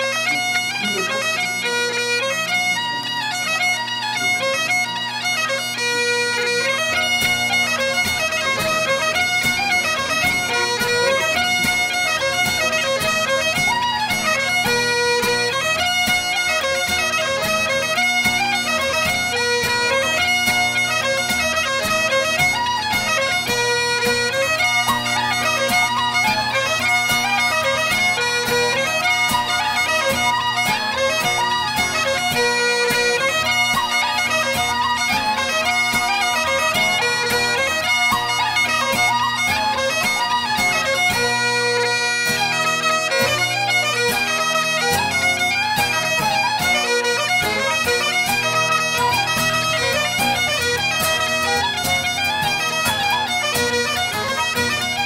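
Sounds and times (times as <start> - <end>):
bagpipe tune: 0.0 - 55.0.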